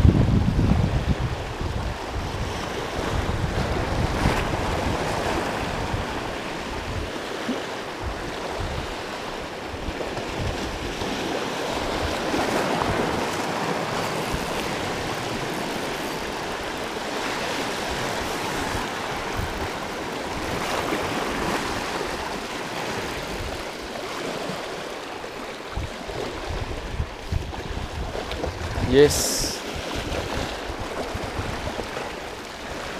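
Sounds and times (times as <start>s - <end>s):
wind rumbling on microphone: 0.0s - 32.9s
sea water splashing over rocks: 1.2s - 32.9s.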